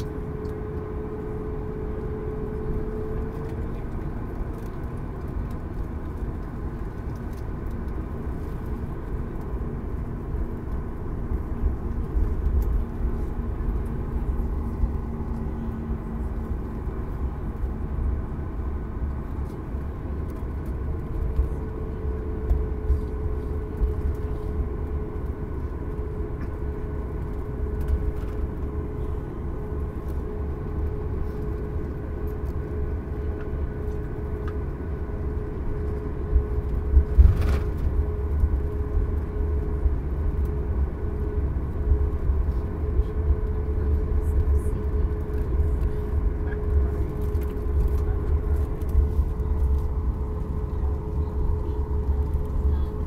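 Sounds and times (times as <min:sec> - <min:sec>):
low rumble of wheels and engines: 0:00.0 - 0:53.0
steady hum: 0:06.1 - 0:53.0.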